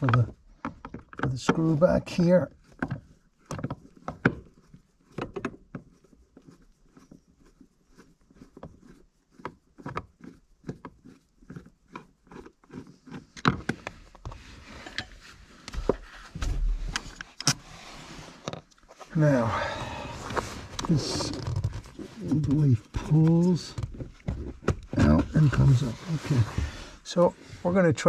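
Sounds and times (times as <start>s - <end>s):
rustling: 2.1s - 27.8s.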